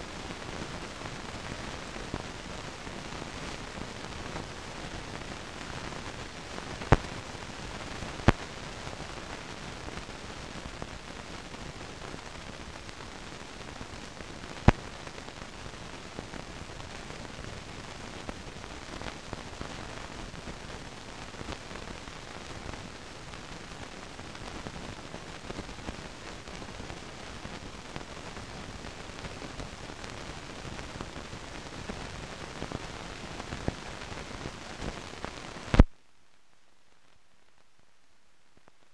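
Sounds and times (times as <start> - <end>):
film hiss and crackle: 0.0 - 38.9.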